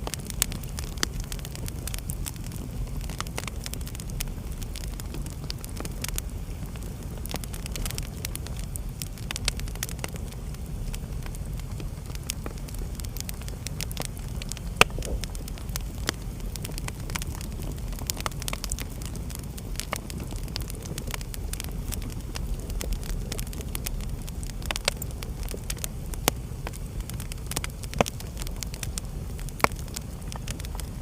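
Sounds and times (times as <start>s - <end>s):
fire crackling and popping: 0.0s - 31.0s
fire flames rumbling: 0.0s - 31.0s.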